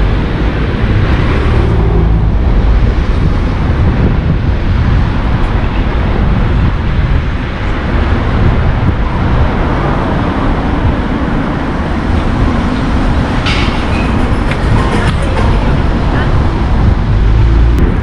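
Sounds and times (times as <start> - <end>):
car driving on paved street: 0.0 - 18.0.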